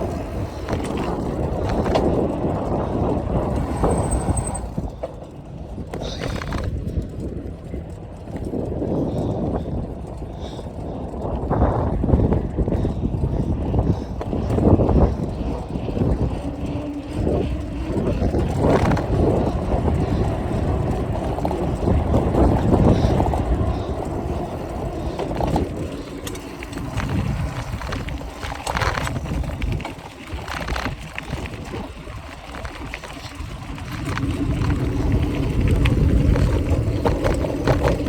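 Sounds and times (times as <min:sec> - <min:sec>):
bike chain clanking and rattling: 0:00.0 - 0:38.0
bike riding rumble: 0:00.0 - 0:38.0.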